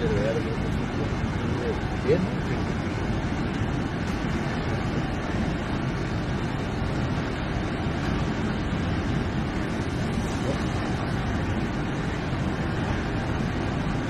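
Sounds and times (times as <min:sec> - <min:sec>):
heavy truck engine rumble: 0:00.0 - 0:14.0.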